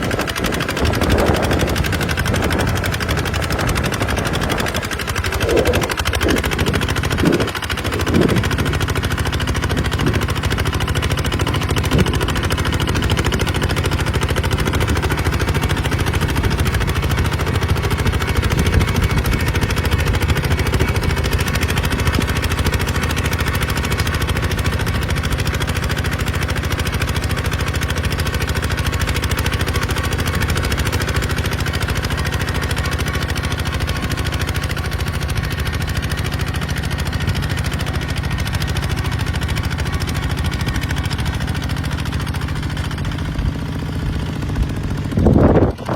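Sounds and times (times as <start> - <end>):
diesel engine chugging: 0.0 - 45.9.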